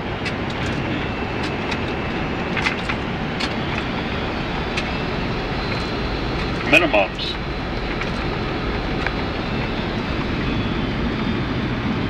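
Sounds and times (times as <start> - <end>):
airflow and engine noise: 0.0 - 12.0.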